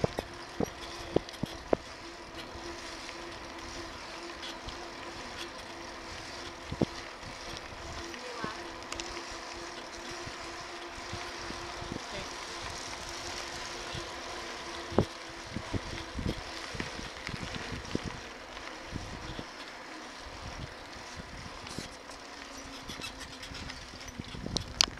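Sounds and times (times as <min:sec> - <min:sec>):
bicycle knocks and rattles: 0:00.0 - 0:24.9
bicycle tyre and wind noise: 0:00.0 - 0:24.9.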